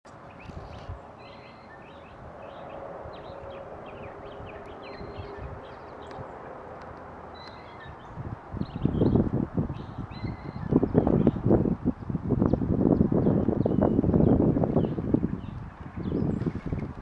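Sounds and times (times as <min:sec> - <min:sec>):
birds chirping: 0:00.1 - 0:17.0
distant jet engine drone: 0:00.1 - 0:17.0.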